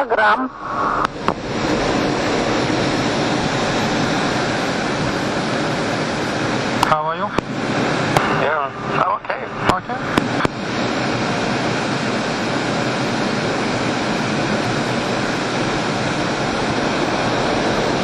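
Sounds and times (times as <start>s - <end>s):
jet airflow and engine noise: 0.0s - 18.0s.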